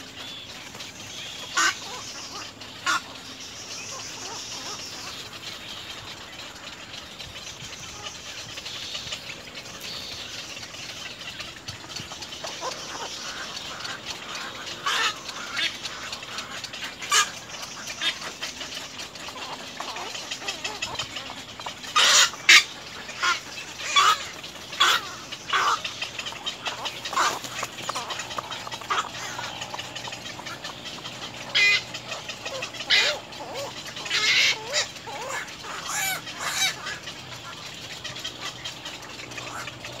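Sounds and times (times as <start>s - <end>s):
birds calling: 0.0s - 40.0s.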